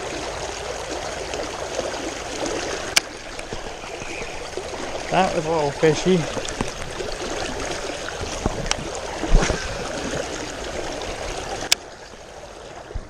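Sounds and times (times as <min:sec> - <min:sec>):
river water running: 0:00.0 - 0:13.0.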